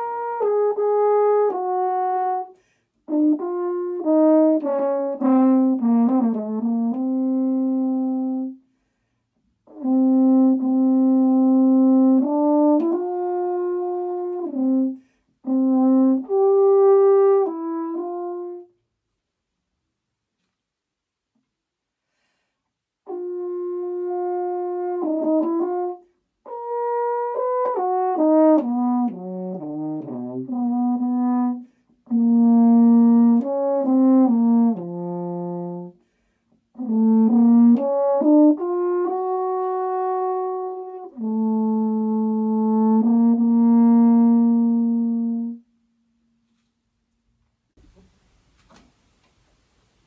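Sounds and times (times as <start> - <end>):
french horn solo: 0.0 - 19.6, 22.0 - 46.8.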